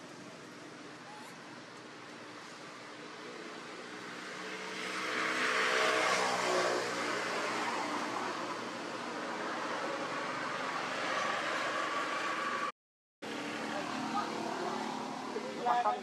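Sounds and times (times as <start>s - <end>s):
vehicle passing by: 3.2s - 16.0s.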